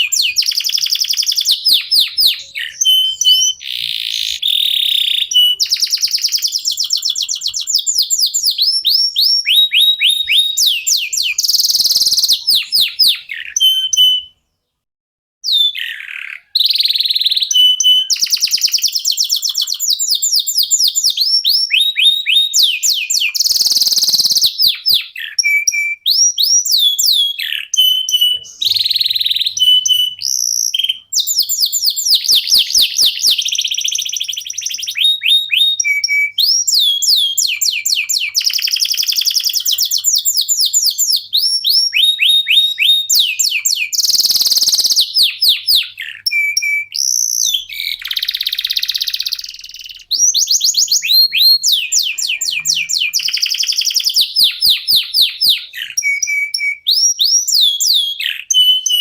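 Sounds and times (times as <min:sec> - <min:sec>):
canaries singing: 0:00.0 - 0:14.6, 0:15.4 - 0:59.0.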